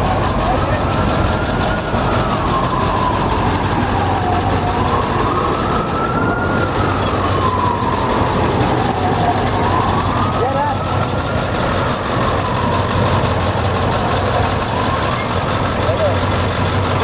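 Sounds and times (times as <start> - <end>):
large engine idling: 0.0 - 17.0
siren wailing: 0.0 - 17.0.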